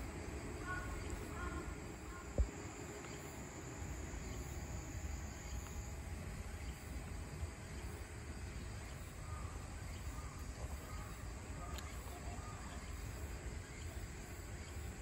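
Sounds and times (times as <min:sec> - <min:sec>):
high insect buzz: 0:00.0 - 0:12.1
low outdoor rumble: 0:00.0 - 0:15.0.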